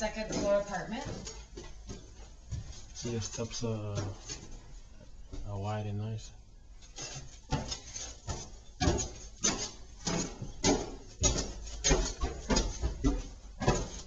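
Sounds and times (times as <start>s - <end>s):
footsteps on wooden stairs: 0.0s - 4.6s, 7.0s - 14.0s.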